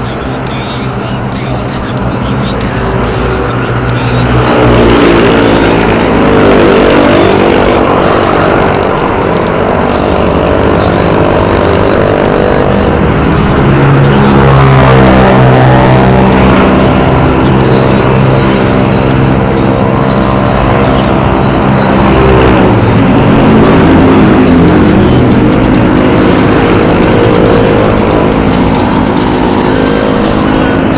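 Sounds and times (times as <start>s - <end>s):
road rumble: 0.0s - 30.9s
vehicle engine revving: 0.0s - 30.9s.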